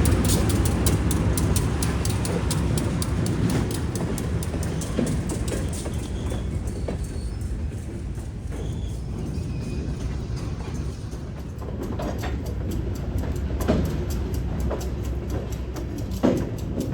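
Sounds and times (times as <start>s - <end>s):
train rolling on rails: 0.0s - 16.9s.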